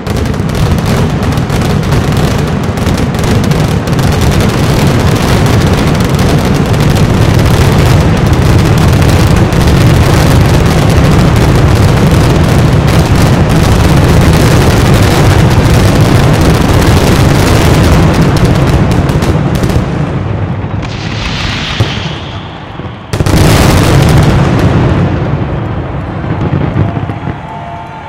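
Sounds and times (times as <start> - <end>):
fireworks bursts and bangs: 0.0 - 28.0.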